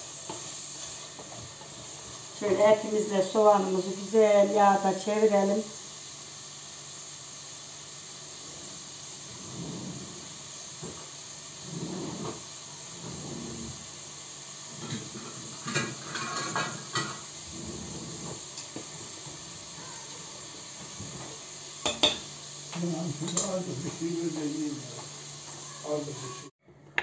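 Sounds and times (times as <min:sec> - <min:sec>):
meat and onion frying: 0:00.0 - 0:27.0.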